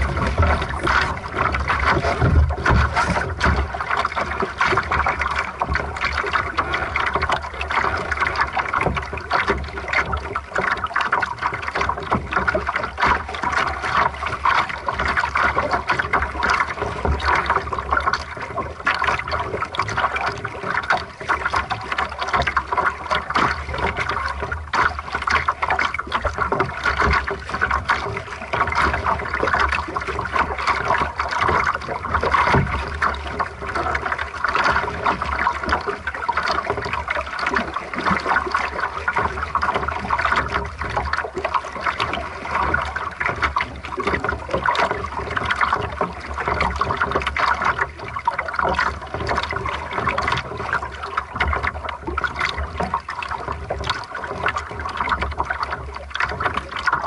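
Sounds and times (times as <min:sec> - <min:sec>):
water splashing against hull: 0:00.0 - 0:57.0.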